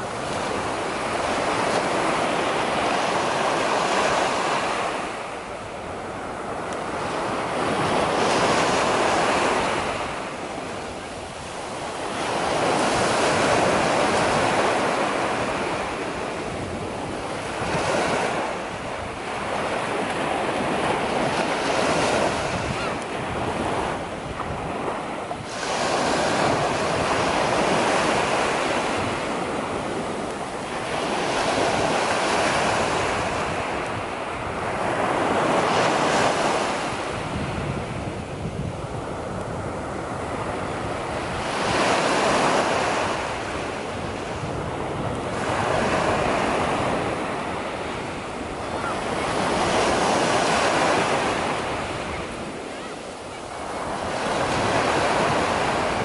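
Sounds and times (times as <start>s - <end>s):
waves washing onto beach: 0.0s - 56.0s.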